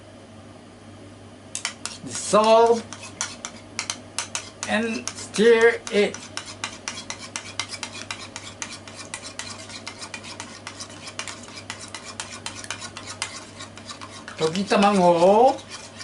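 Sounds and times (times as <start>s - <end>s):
egg whisked clicking on bowl: 1.6s - 16.0s.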